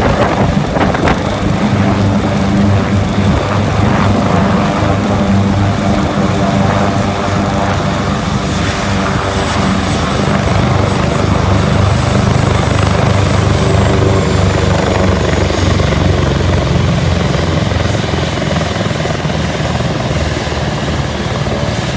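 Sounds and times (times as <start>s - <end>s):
helicopter rotor beat: 0.0s - 21.9s
high turbine whine: 0.0s - 21.9s.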